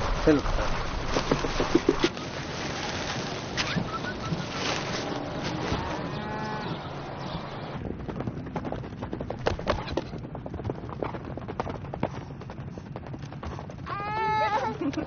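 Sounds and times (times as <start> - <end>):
hooves thudding on dry ground: 0.0 - 15.0.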